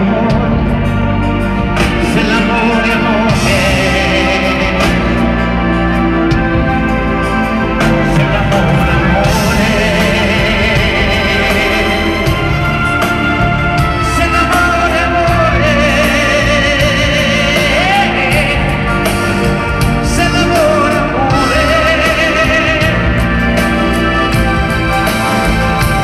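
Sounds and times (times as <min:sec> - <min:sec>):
live pop-rock band playing: 0:00.0 - 0:26.0
wavering lead melody: 0:00.0 - 0:26.0.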